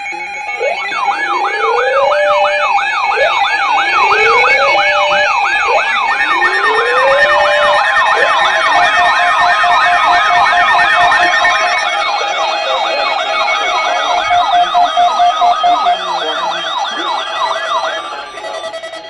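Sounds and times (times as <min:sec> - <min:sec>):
wailing siren: 0:00.0 - 0:19.0
yelping electronic siren: 0:00.0 - 0:19.0.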